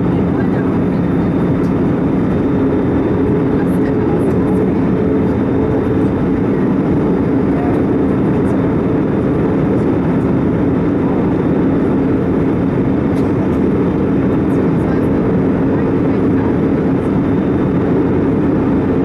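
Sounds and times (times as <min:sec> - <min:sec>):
airplane cabin noise: 0:00.0 - 0:19.0.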